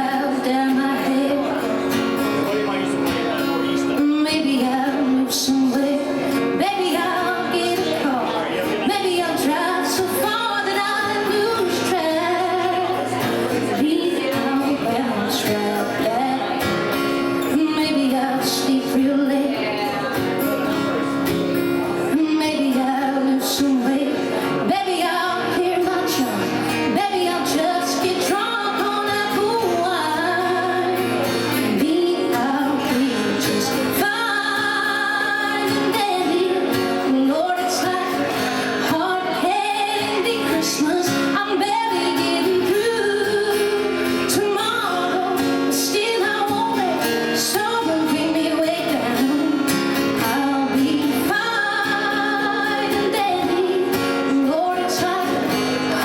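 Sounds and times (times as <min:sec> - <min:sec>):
woman singing: 0:00.0 - 0:02.2, 0:03.9 - 0:20.2, 0:22.0 - 0:56.0
guitar accompaniment: 0:00.0 - 0:56.0.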